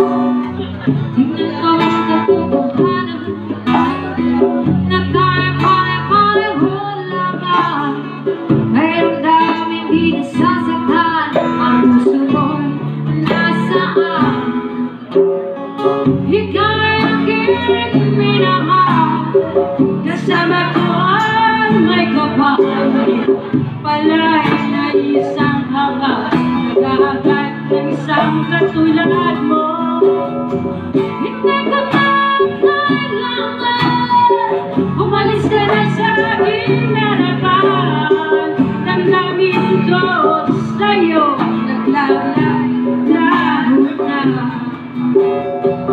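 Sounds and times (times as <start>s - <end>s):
hand drum: 0.0s - 45.9s
strummed acoustic guitar: 0.0s - 45.9s
woman singing: 0.0s - 45.9s.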